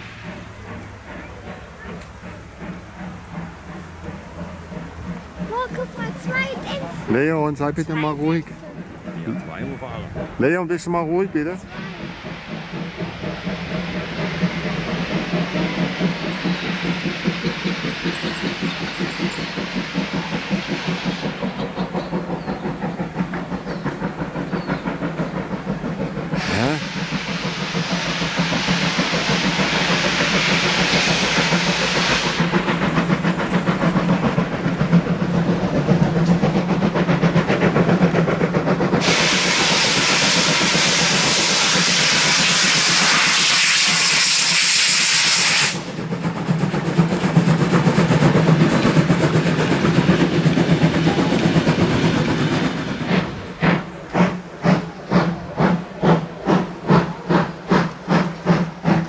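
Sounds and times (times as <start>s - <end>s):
locomotive exhaust chuffs: 0.0s - 59.0s
steam locomotive hissing: 0.0s - 59.0s.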